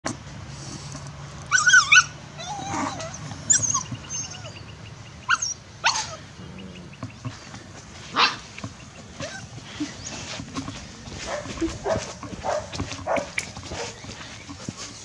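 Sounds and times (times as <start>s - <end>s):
puppies yipping and whining: 1.4s - 6.6s, 8.0s - 15.0s.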